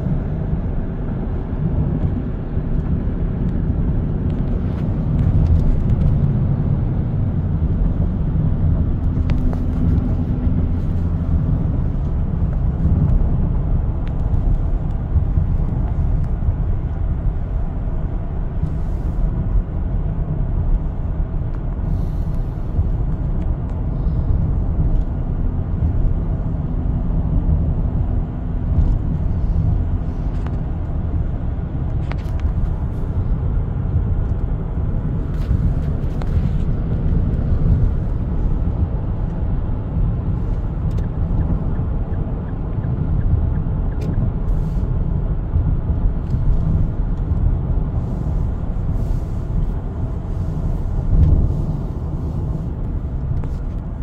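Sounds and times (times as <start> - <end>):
car driving heard from cabin: 0.0 - 54.0.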